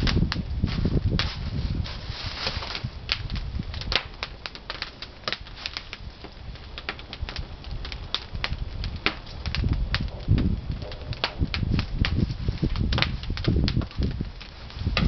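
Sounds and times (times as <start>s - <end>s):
firewood crackling and popping: 0.0s - 15.0s
low rumble of fire: 0.0s - 15.0s.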